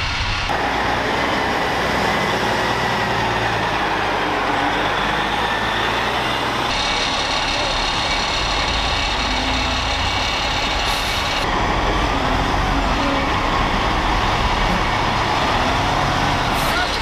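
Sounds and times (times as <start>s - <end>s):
heavy vehicle engines running: 0.0s - 17.0s.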